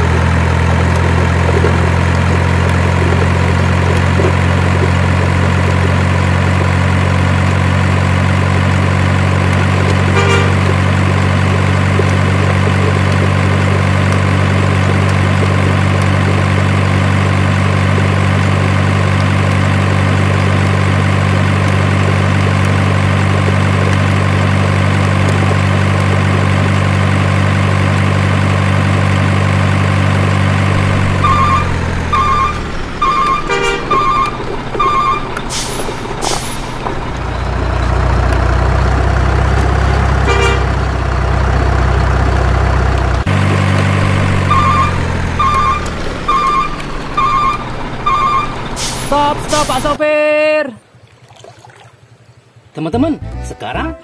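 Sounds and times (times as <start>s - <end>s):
heavy truck engine idling: 0.0s - 50.0s.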